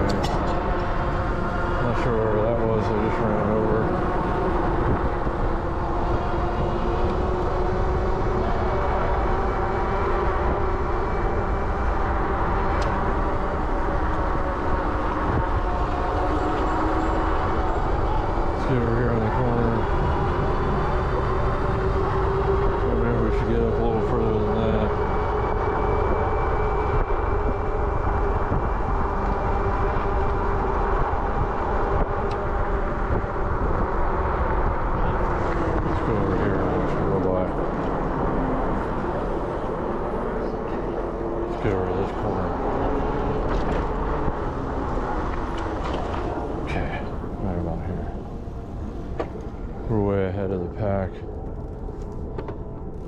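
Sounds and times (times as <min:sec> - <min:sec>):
bike tyre and drivetrain noise: 0:00.0 - 0:53.0
wind and road noise: 0:00.0 - 0:53.0.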